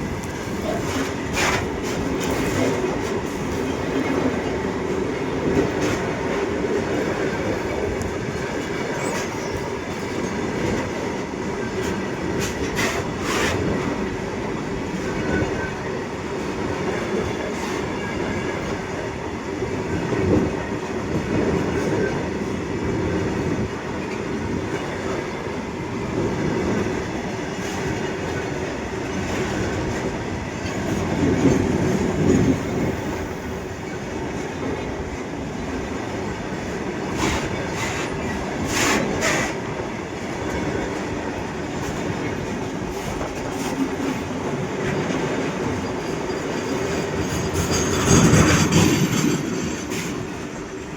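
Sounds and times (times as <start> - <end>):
train wagons rumbling and clattering: 0.0 - 50.9.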